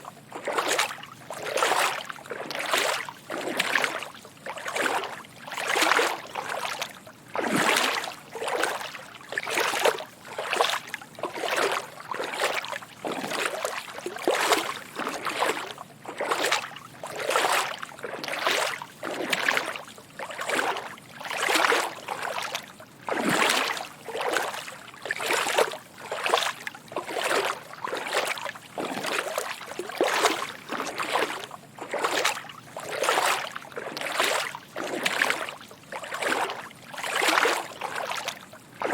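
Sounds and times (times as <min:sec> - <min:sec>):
footsteps wading through water: 0:00.0 - 0:38.9.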